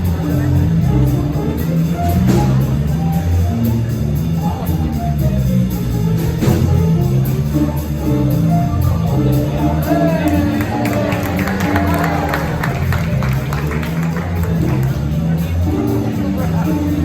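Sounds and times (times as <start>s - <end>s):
jazz big band playing: 0.0s - 17.0s.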